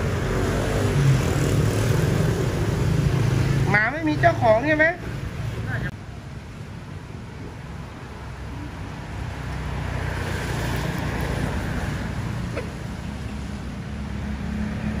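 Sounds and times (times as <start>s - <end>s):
vehicle passing on road: 0.0s - 5.9s, 7.3s - 15.0s
steady low traffic rumble: 0.0s - 15.0s.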